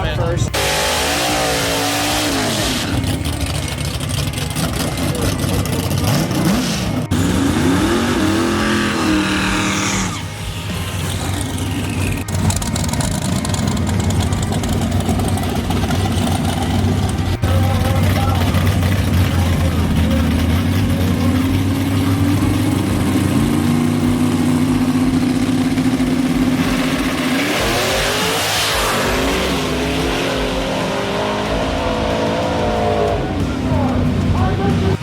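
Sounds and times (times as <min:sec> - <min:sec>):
racing car engines running: 0:00.0 - 0:35.0
engine revving in rising sweeps: 0:00.5 - 0:35.0.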